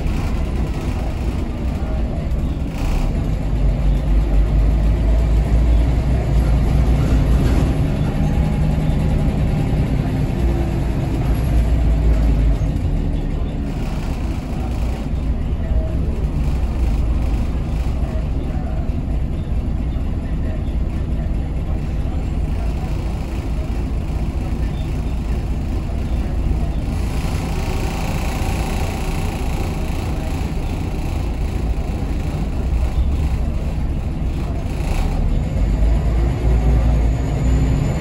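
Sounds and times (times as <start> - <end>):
bus diesel engine rumbling: 0.0 - 38.0.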